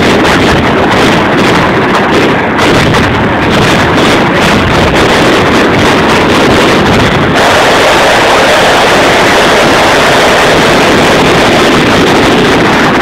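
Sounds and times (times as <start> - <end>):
fireworks bursting with crackle: 0.0 - 13.0.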